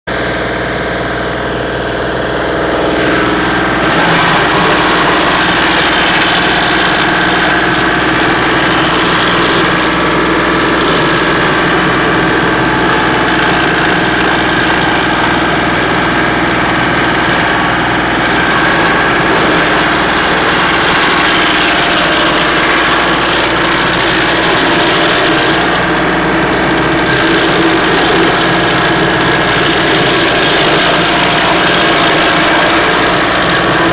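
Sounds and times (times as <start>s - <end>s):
stump grinder engine running: 0.1s - 33.9s.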